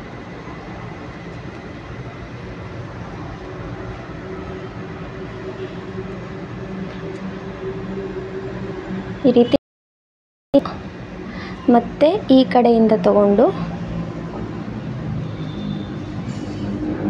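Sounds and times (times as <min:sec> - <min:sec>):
low mechanical hum: 0:00.0 - 0:09.6, 0:10.6 - 0:17.0.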